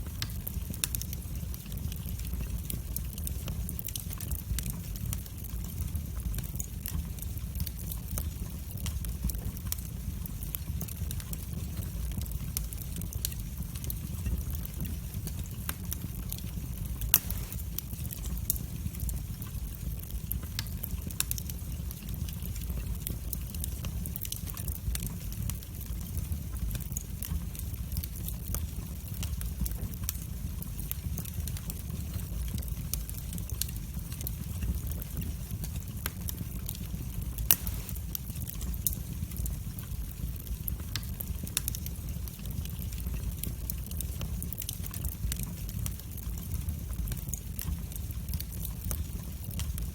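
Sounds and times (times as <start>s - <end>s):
fire crackling and popping: 0.0s - 49.9s
fire rumbling: 0.0s - 49.9s.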